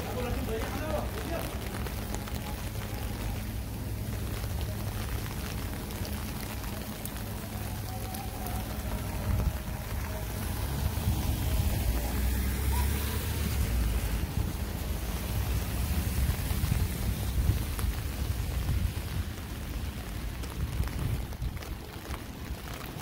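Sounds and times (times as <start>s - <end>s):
rain hissing on wet street: 0.0s - 23.0s
traffic on wet pavement: 0.0s - 23.0s.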